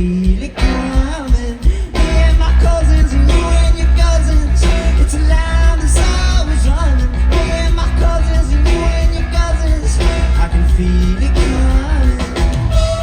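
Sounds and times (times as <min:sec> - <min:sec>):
rock band playing loudly: 0:00.0 - 0:13.0.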